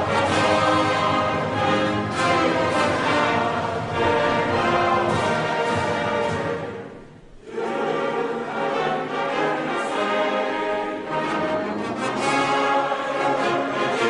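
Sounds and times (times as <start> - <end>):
slow orchestral music with brass: 0.0 - 14.0.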